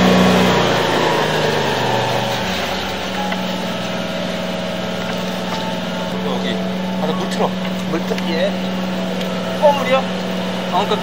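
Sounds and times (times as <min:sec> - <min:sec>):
small engine humming: 0:00.0 - 0:11.0.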